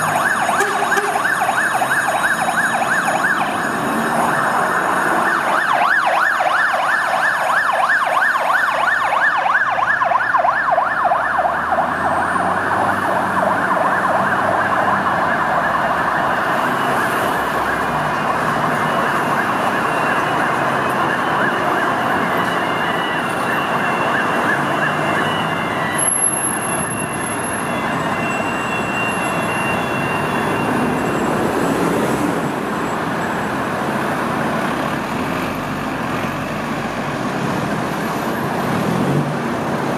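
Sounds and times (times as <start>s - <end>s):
siren yelping: 0.0s - 34.9s
city traffic noise: 0.0s - 39.9s.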